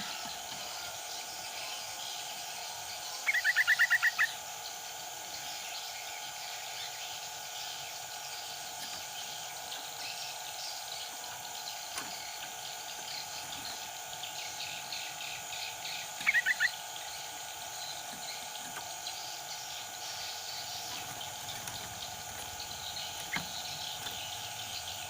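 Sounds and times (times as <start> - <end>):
insects: 0.0 - 25.0.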